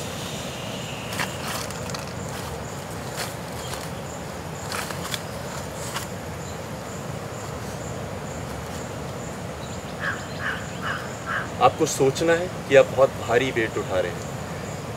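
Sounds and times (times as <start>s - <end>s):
insects chirping: 0.0s - 14.9s.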